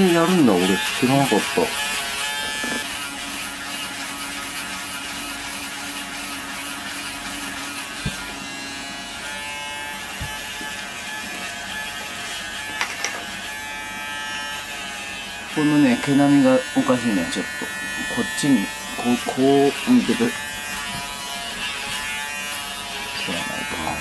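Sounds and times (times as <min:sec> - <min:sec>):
electric shaver buzzing: 0:00.0 - 0:24.0.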